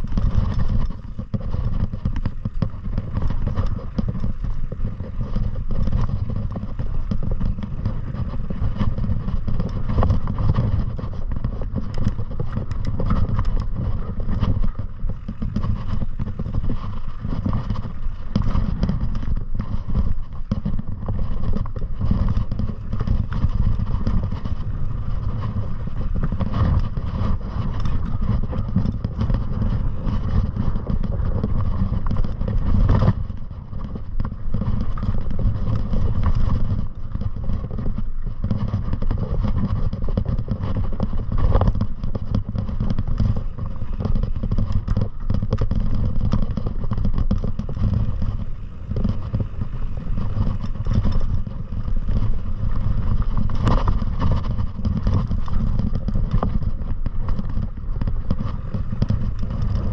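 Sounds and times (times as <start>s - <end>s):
knocks and rattles over rough ground: 0.0s - 59.9s
wind rumble on microphone: 0.0s - 59.9s.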